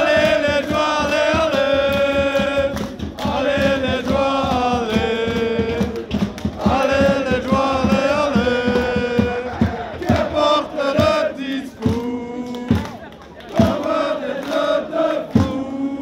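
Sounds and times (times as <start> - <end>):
hand clapping: 0.0 - 15.8
crowd chanting in unison: 0.0 - 16.0.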